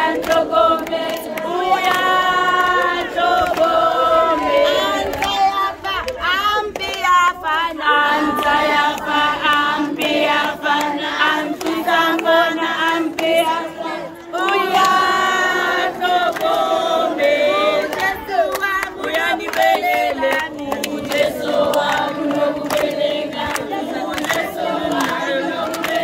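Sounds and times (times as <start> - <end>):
children and women singing: 0.0 - 26.0
hands clapping: 0.0 - 26.0.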